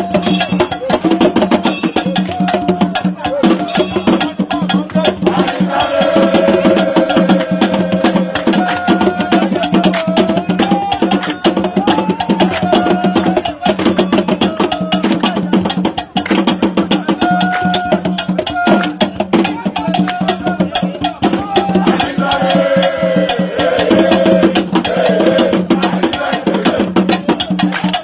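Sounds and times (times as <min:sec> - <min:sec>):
woodblock-like clicks and drums: 0:00.0 - 0:28.0.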